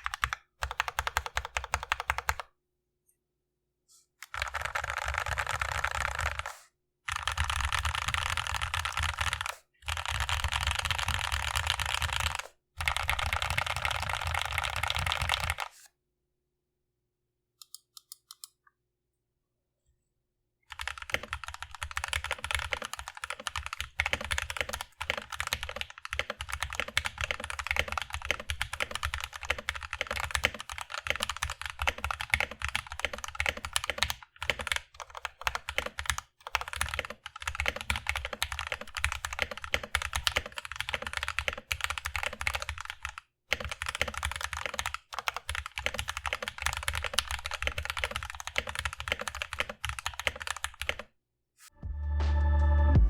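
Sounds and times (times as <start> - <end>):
mechanical keyboard typing: 0.0 - 2.5, 4.2 - 15.7, 20.7 - 51.1.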